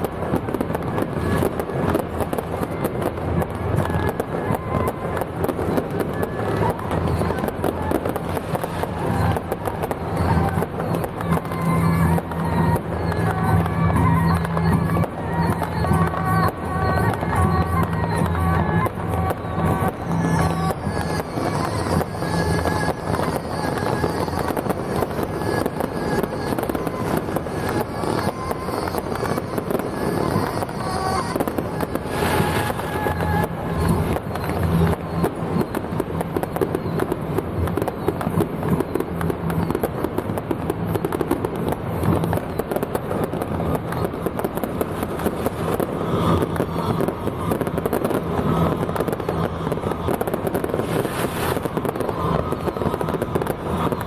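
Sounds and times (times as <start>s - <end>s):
firecrackers crackling: 0.0s - 54.0s.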